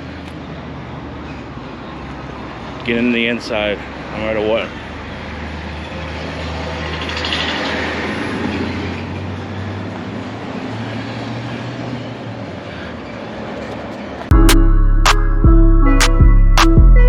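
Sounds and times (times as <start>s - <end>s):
passing vehicle rumble: 0.0s - 14.3s.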